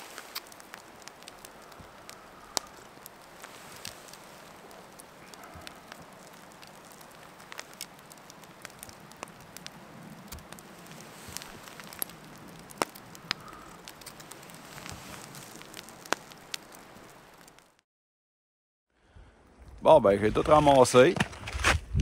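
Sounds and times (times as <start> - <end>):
campfire crackling and popping: 0.0 - 17.8, 19.4 - 21.8.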